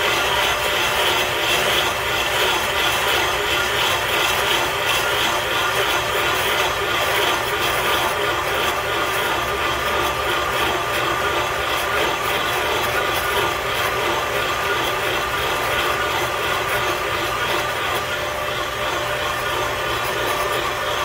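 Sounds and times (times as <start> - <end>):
machine spindle cutting metal: 0.0 - 21.0.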